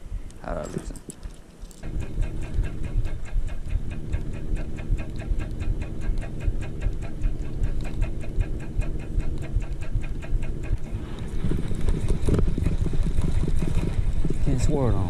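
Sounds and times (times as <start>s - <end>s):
fishing reel ticking: 1.8s - 15.0s
low handling rumble: 1.8s - 15.0s.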